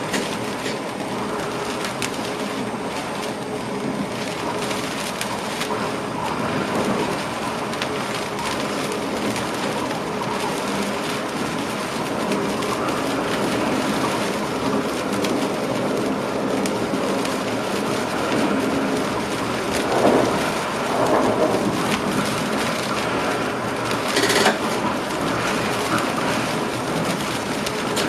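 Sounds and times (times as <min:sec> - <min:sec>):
train wheels on rails: 0:00.0 - 0:28.0.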